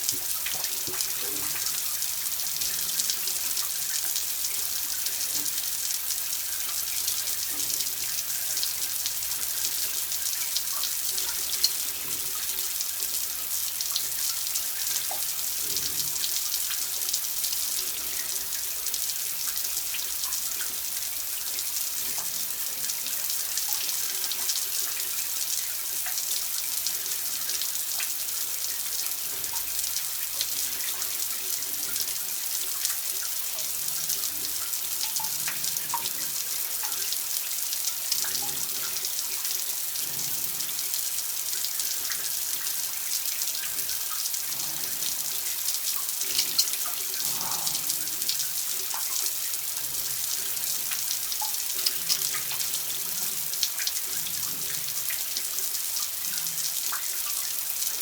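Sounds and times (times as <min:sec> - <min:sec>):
water drips and splashes: 0:00.0 - 0:58.0
water running from a tap: 0:00.0 - 0:58.0.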